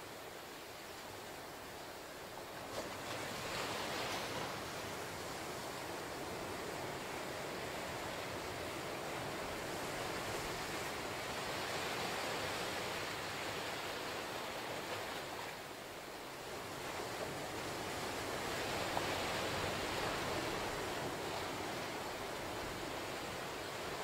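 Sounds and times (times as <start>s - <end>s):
small waves breaking on beach: 0.0s - 24.0s.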